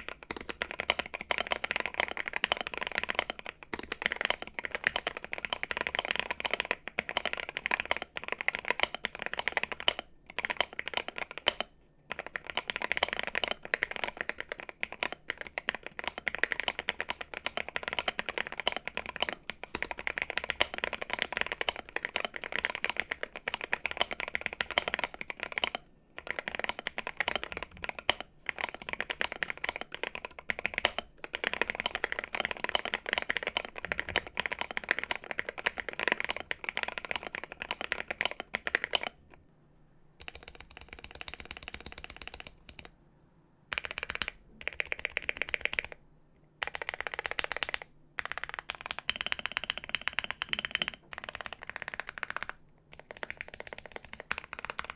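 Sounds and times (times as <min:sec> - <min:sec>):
fast typing on keyboard: 0:00.0 - 0:39.2, 0:40.2 - 0:42.9, 0:43.7 - 0:46.0, 0:46.6 - 0:54.9.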